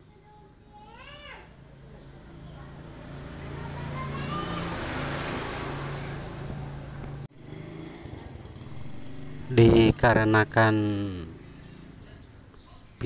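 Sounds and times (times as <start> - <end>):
vehicle engine passing by: 1.5 - 12.7.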